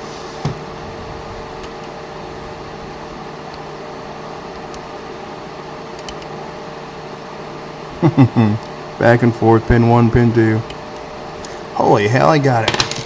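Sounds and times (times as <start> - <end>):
steady background hum and hiss: 0.0 - 13.0.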